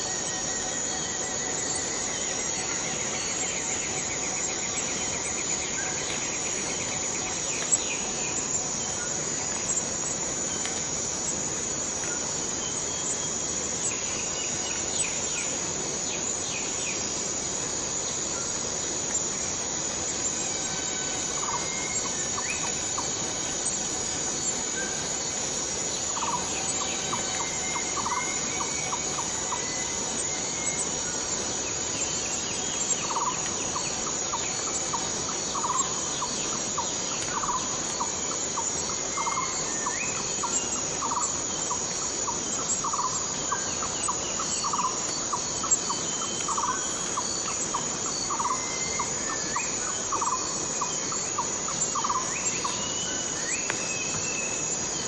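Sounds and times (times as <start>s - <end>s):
cicadas droning: 0.0s - 55.0s.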